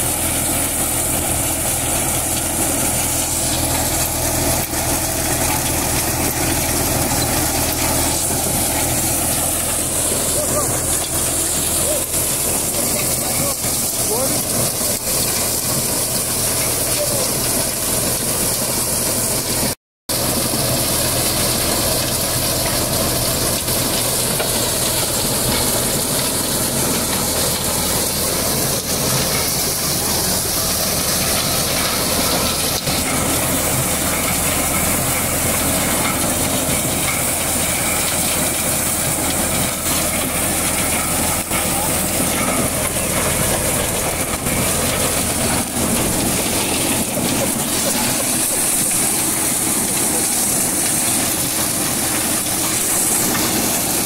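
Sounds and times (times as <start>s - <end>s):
low engine drone: 0.0s - 54.0s.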